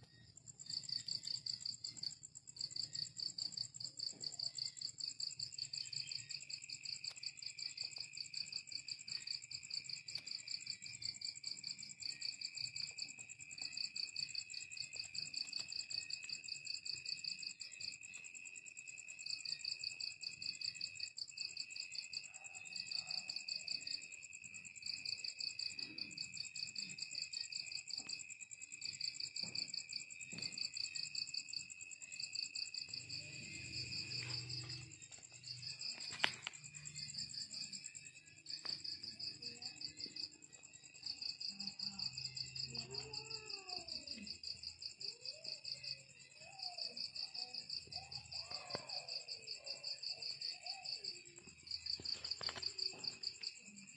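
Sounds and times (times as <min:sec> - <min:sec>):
continuous higher cricket trill: 0:00.0 - 0:53.9
steady lower cricket trill: 0:00.0 - 0:53.9.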